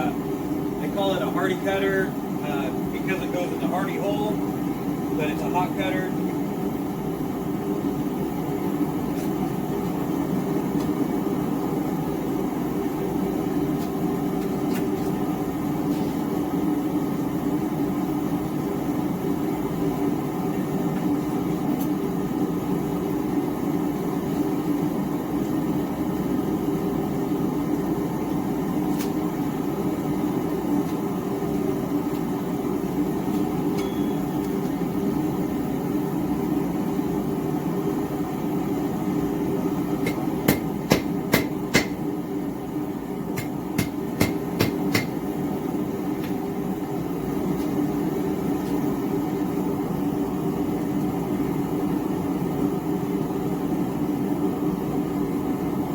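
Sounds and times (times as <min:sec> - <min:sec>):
gas forge burner rushing: 0:00.0 - 0:55.9.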